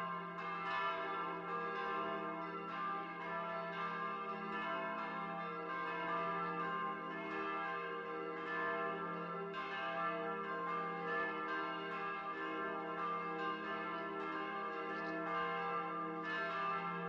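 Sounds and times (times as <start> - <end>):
church bells pealing: 0.0 - 17.0.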